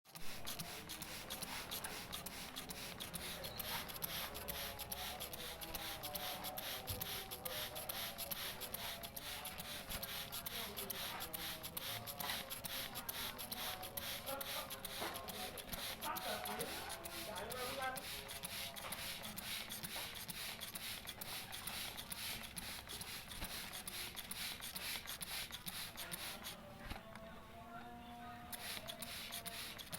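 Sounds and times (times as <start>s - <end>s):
spray bottle squirting water: 0.1s - 27.0s, 28.5s - 29.9s.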